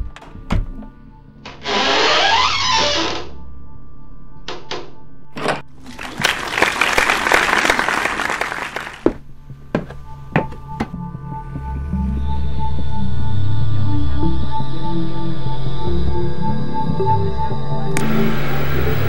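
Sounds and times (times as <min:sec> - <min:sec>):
low ambient music drone: 0:00.0 - 0:19.0.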